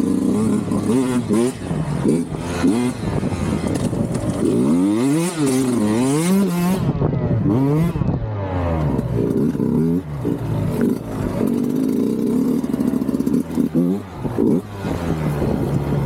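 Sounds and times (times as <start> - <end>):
two-stroke motorbike engine revving: 0.0 - 16.0.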